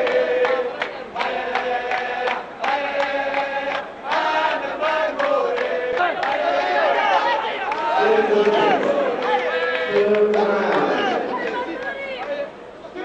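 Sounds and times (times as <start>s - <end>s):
crowd chanting: 0.0s - 13.0s.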